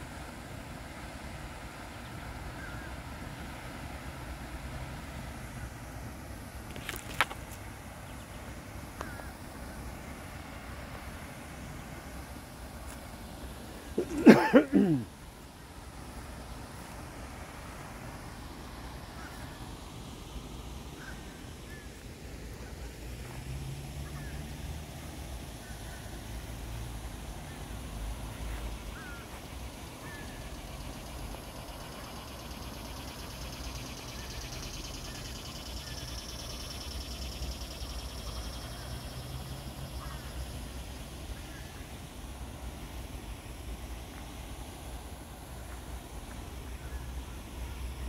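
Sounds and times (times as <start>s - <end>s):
high steady hiss: 0.0s - 48.0s.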